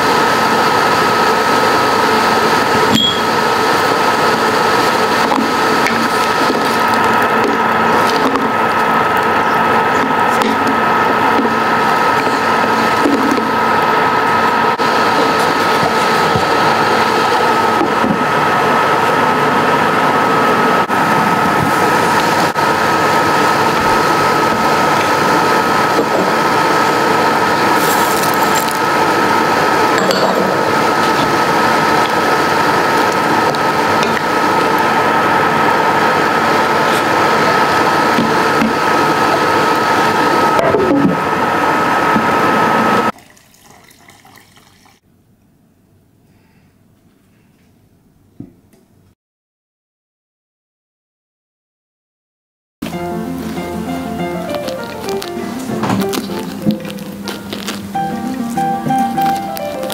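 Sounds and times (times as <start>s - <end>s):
machine running with high whine: 0.0s - 43.1s, 52.8s - 59.9s.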